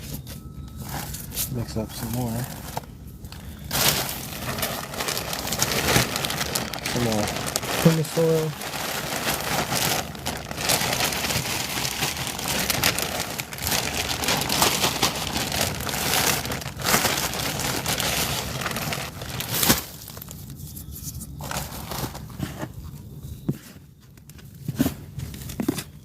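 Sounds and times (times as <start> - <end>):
soil and mulch crunching by hand: 0.8 - 22.8.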